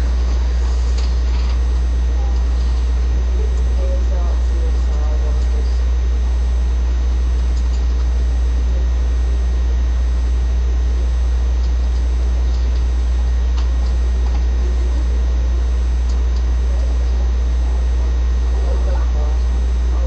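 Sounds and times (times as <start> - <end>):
loud low hum: 0.0 - 20.0.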